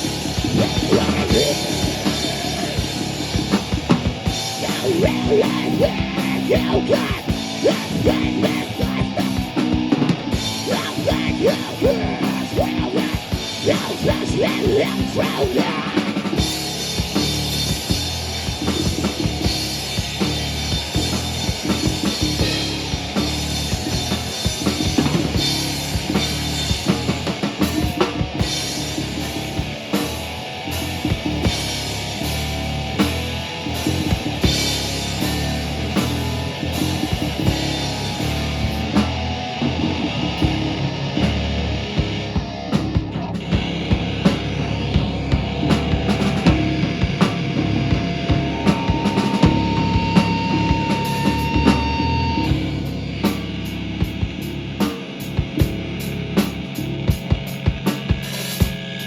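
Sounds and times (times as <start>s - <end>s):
drum kit hitting hard: 0.0s - 59.0s
live rock band playing: 0.0s - 59.0s.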